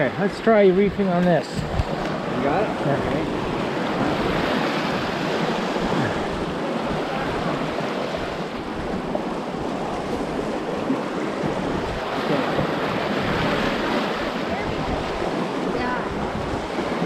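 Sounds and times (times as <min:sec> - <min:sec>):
fast river water rushing: 0:00.0 - 0:17.0.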